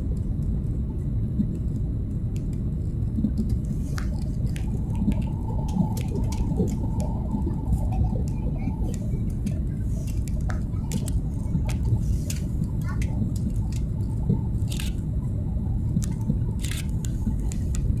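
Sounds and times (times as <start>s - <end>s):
aircraft cabin rumble: 0.0s - 18.0s
faint hum: 0.0s - 18.0s.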